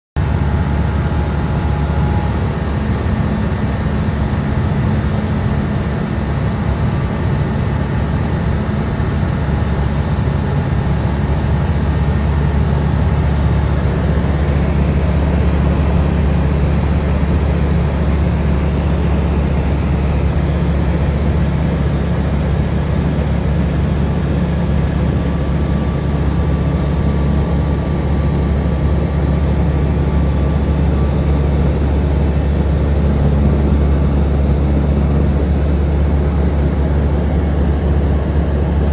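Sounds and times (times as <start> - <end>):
aircraft engine and propeller drone: 0.2 - 38.9.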